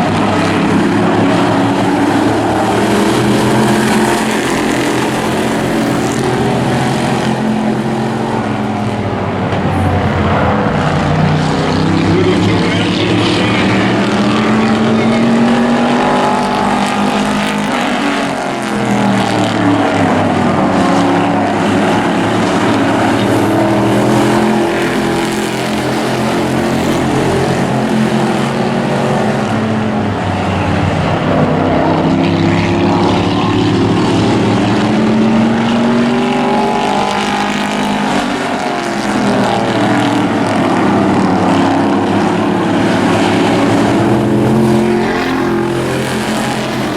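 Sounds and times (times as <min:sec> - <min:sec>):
racing truck engines: 0:00.0 - 0:46.9.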